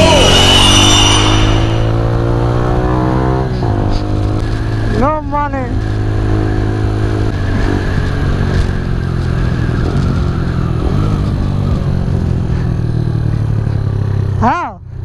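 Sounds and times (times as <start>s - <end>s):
wind rushing over microphone: 0.0s - 12.8s
motorcycle engine cruising: 0.0s - 15.0s.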